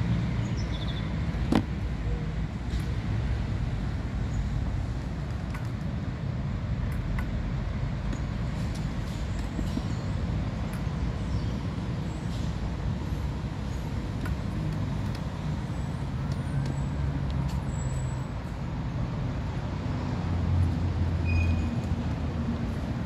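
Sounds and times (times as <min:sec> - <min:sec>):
highway traffic rumbling: 0:00.0 - 0:23.0.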